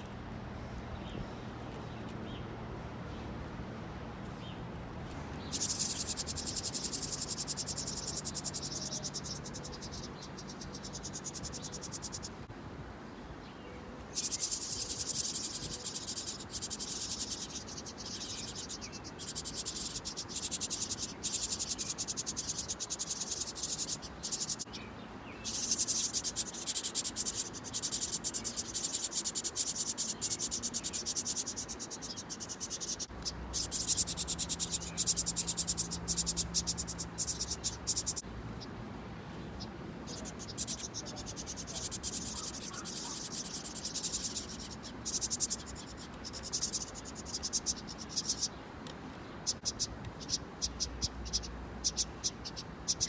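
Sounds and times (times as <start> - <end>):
insects trilling: 5.2 - 12.5, 14.1 - 24.7, 25.3 - 38.3, 40.1 - 48.6, 49.4 - 53.0.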